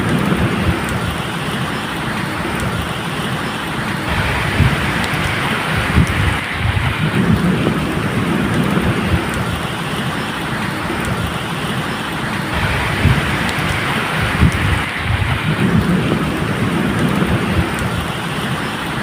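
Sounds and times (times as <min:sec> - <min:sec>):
low rolling thunder: 0:00.0 - 0:01.3, 0:03.8 - 0:11.7, 0:12.3 - 0:18.5
steady rain falling: 0:00.0 - 0:19.0.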